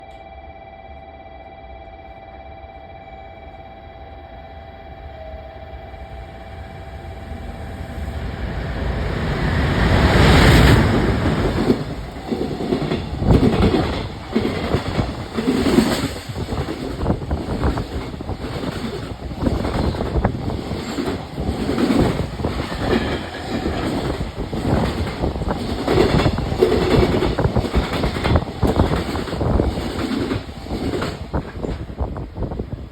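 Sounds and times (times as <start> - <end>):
electric locomotive passing: 0.0 - 32.9.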